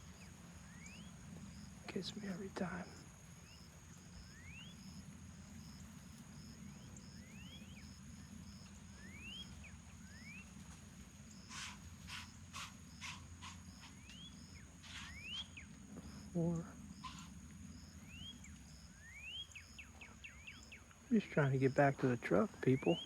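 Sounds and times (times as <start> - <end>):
insects trilling and ticking: 0.0 - 23.0.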